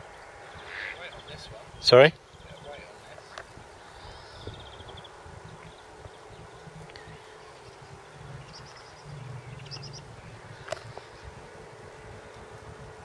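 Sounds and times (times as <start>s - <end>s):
low insect buzz: 0.0s - 13.0s.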